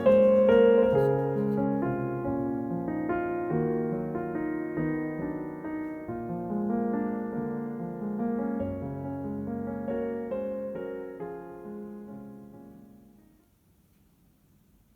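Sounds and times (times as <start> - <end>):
slow gentle piano: 0.0 - 14.9.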